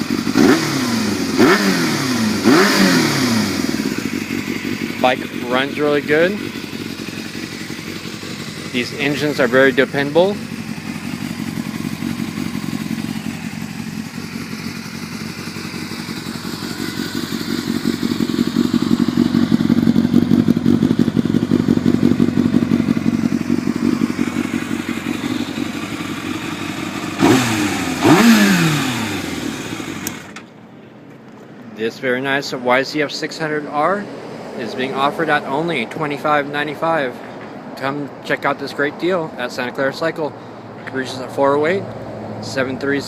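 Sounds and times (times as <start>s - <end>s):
motorcycle engine idling and revving: 0.0s - 43.0s.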